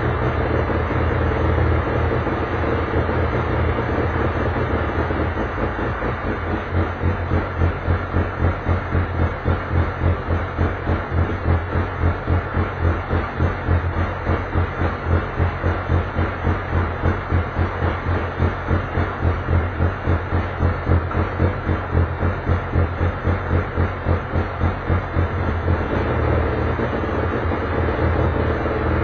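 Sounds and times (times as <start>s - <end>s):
race car engine idling: 0.0s - 29.0s.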